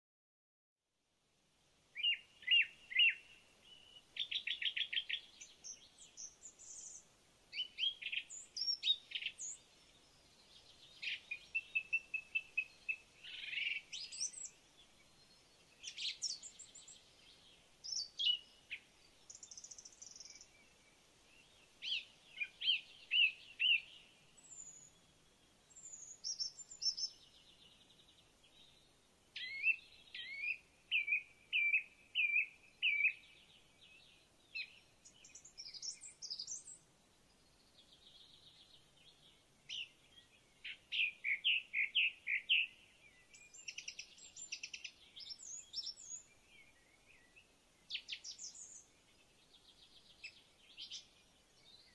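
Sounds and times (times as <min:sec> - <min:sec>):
songbirds singing: 0:01.7 - 0:51.9.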